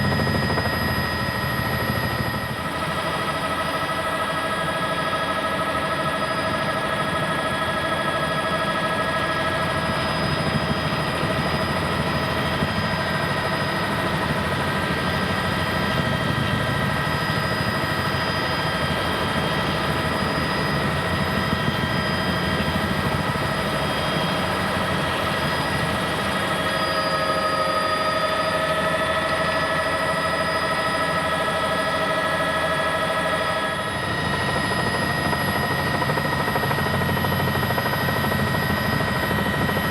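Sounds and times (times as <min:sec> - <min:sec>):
helicopter rotor beat: 0:00.0 - 0:39.9.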